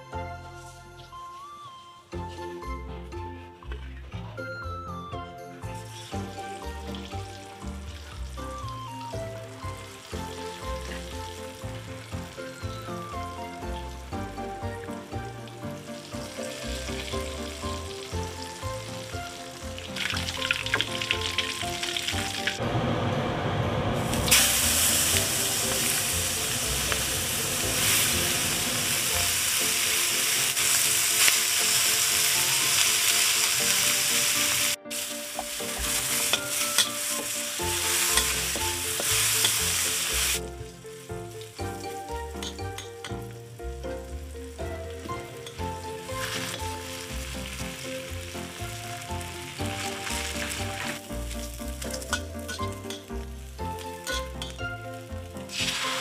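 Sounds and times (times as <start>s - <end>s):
background music: 0.0s - 22.6s, 24.2s - 56.0s
oil sizzling in a wok: 5.7s - 56.0s.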